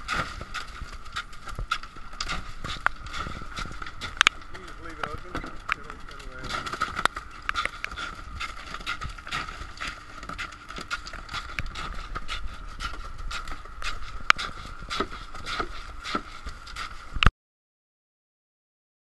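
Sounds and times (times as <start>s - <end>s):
steady high hum: 0.0s - 17.3s.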